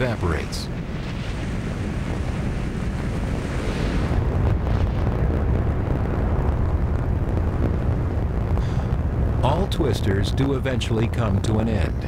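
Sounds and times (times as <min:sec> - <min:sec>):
deep wind rumble: 0:00.0 - 0:12.0.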